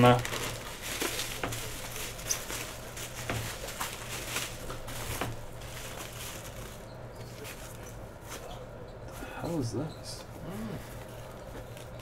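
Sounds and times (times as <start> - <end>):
bubble wrap and plastic bag crinkling: 0.0 - 9.2, 10.8 - 12.0.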